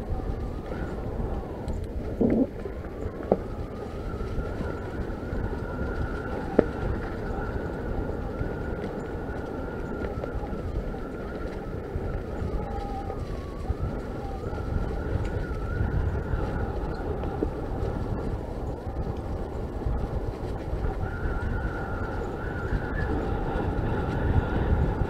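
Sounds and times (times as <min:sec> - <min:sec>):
bike tyre rumble and rattle: 0:00.0 - 0:25.0.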